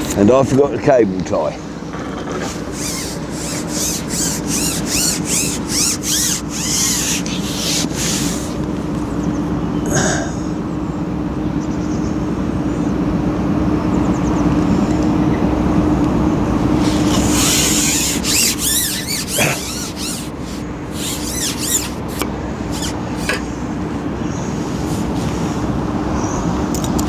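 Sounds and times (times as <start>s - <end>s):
distant road traffic hum: 0.0s - 27.0s.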